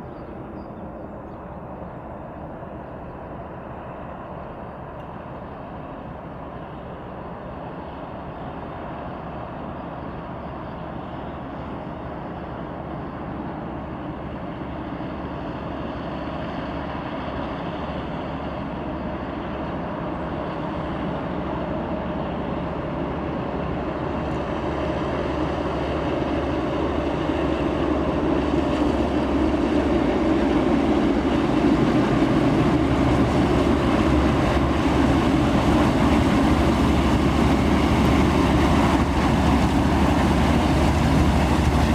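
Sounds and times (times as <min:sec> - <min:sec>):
diesel locomotive engine working: 0:00.0 - 0:41.9.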